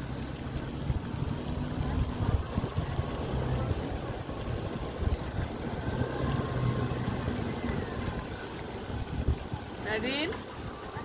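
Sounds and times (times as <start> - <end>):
low engine hum: 0.0 - 11.0
street traffic rumble: 0.0 - 11.0
wind buffeting microphone: 0.0 - 11.0.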